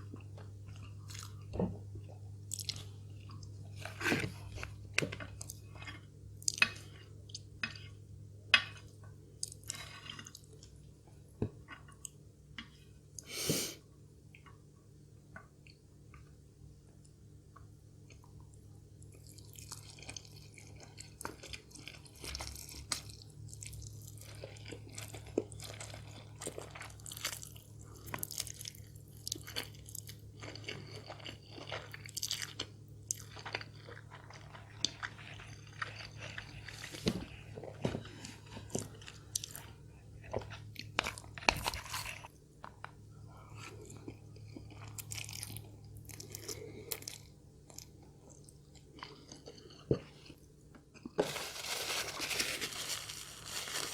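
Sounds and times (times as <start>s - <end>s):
person chewing crispy food: 0.0s - 13.4s, 18.1s - 53.9s.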